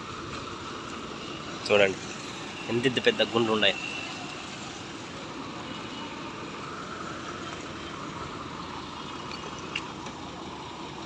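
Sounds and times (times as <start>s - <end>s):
traffic and engines humming: 0.0s - 11.0s.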